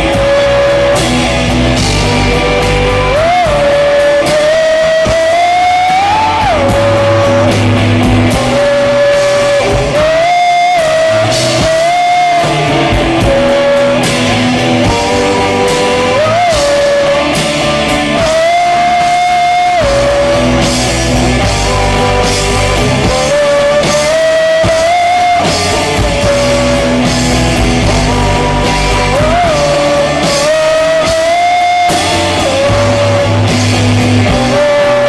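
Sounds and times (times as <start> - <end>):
drum kit: 0.0 - 35.0
lead guitar melody with slides: 0.0 - 35.0
rhythm guitar: 0.0 - 35.0.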